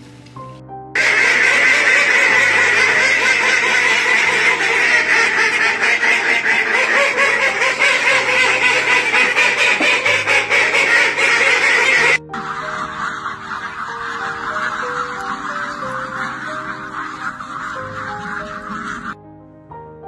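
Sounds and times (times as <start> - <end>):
ducks quacking: 1.0 - 19.2.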